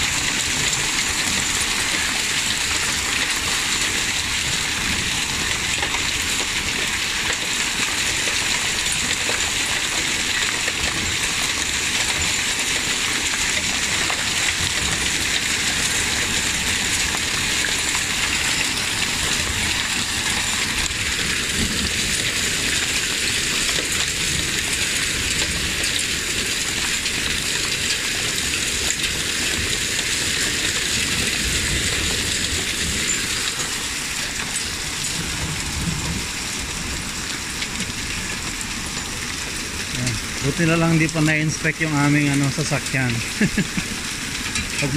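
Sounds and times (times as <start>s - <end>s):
hail and rain on wooden deck: 0.0s - 44.9s.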